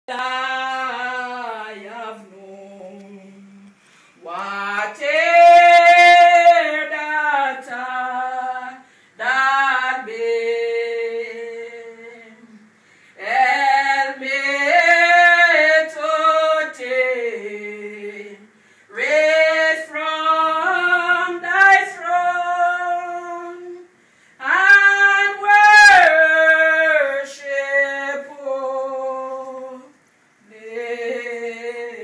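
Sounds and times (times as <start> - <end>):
person singing a hymn unaccompanied: 0.1 - 32.0.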